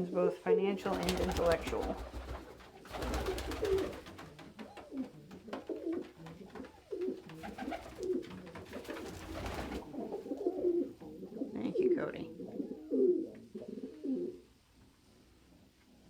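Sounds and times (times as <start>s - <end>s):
pigeons cooing: 0.9s - 14.5s.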